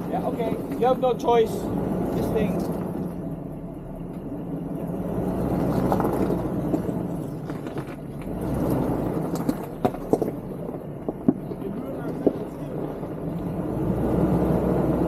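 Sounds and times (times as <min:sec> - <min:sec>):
off-road engine at low revs: 0:00.0 - 0:15.0.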